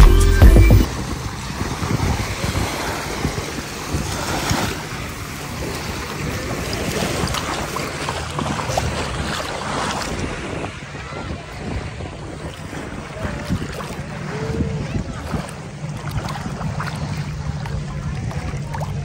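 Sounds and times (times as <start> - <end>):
sea waves on shore: 0.0 - 19.0
wind buffeting microphone: 0.8 - 19.0.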